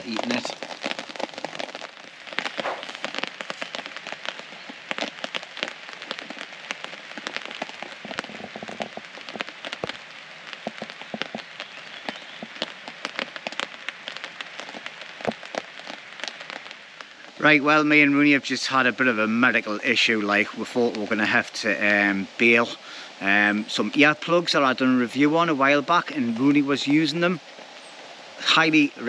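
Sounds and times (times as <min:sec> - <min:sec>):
heavy raindrops tapping: 0:00.0 - 0:29.0
rain falling on a tarp: 0:00.0 - 0:29.0.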